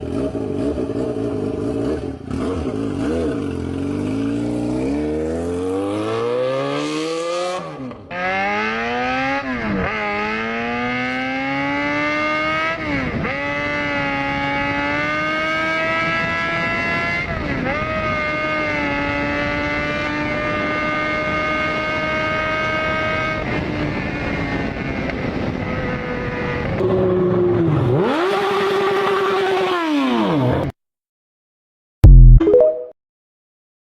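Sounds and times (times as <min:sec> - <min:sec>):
motorcycle engine accelerating: 0:00.0 - 0:30.7.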